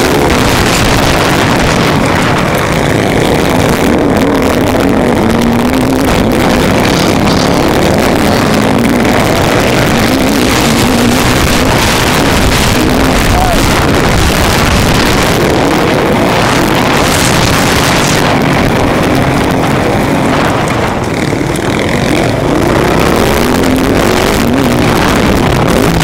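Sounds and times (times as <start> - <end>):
dense rush of noise: 0.0 - 26.0
motocross bike engine racing: 0.0 - 26.0.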